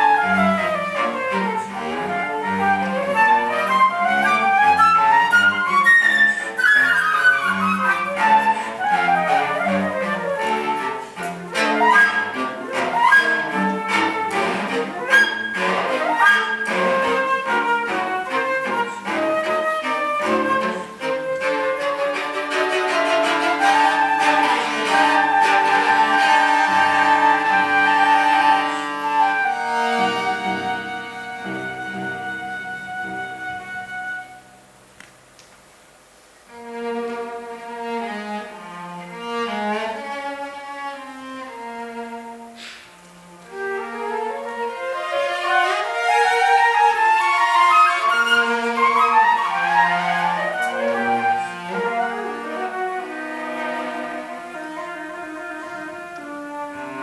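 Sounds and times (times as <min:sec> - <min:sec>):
flute playing: 0:00.0 - 0:34.7, 0:43.4 - 0:57.0
cello playing: 0:00.0 - 0:34.8, 0:36.4 - 0:57.0.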